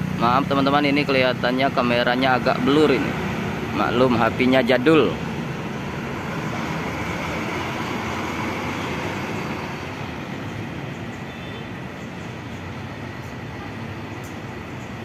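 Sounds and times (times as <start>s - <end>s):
bus engine low drone: 0.0s - 15.0s
traffic noise: 0.0s - 15.0s.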